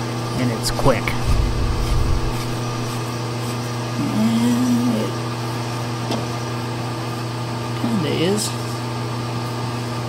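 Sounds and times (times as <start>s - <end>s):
shop machinery hum: 0.0s - 10.0s.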